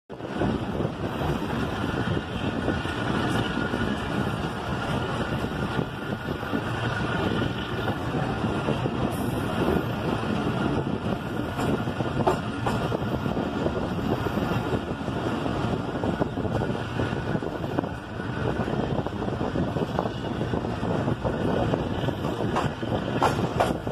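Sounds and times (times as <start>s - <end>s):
train wheels rumbling on track: 0.1s - 23.9s
wind buffeting: 0.1s - 23.9s.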